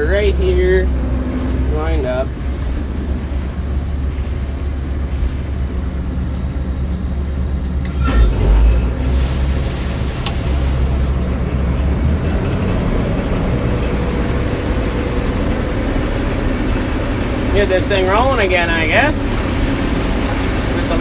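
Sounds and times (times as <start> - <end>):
combine engine rumble: 0.0 - 21.0.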